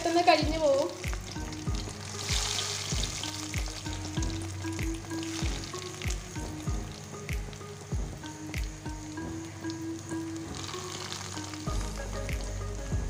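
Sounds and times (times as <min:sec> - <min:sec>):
cutlets sizzling in hot oil: 0:00.0 - 0:12.8
background music with beat: 0:00.0 - 0:13.0.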